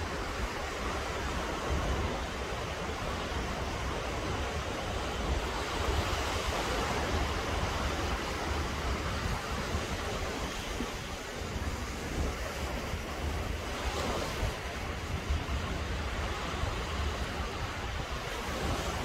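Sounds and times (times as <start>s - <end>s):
sea waves washing on sand: 0.0s - 19.0s
wind rumble on microphone: 0.0s - 19.0s.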